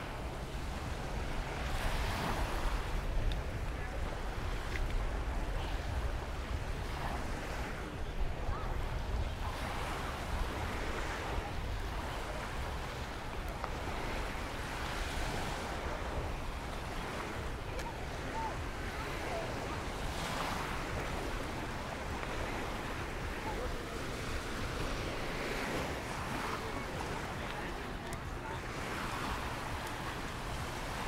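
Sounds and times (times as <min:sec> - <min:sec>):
surf washing onto beach: 0:00.0 - 0:31.0
wind rumbling on microphone: 0:00.0 - 0:31.0.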